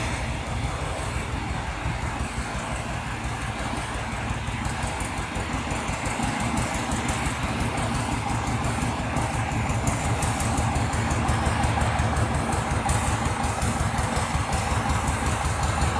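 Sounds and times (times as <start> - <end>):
tractor engine chugging: 0.0 - 15.9.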